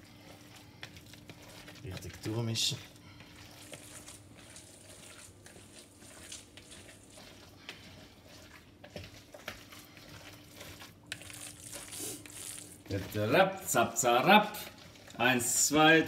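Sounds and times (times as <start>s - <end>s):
wet squishing of food mixed by hand: 0.0s - 16.0s.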